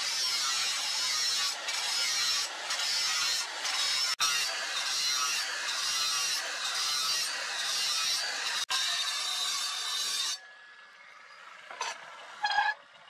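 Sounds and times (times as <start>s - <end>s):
angle grinder grinding metal: 0.0s - 12.8s.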